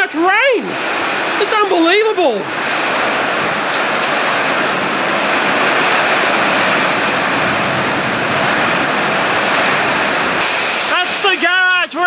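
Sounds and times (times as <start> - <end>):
heavy rain and strong wind: 0.0 - 12.0.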